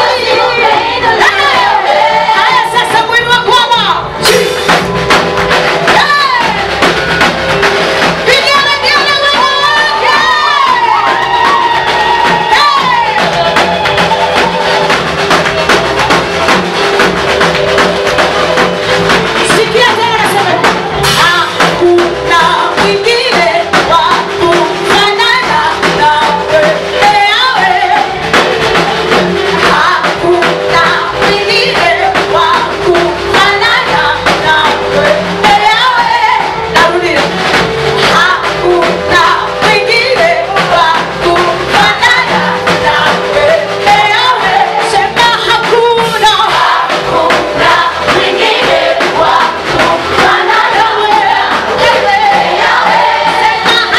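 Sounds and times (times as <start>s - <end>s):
voices singing together: 0.0s - 3.2s, 8.3s - 17.2s, 18.2s - 53.9s
band with steady drum beat: 0.0s - 53.9s.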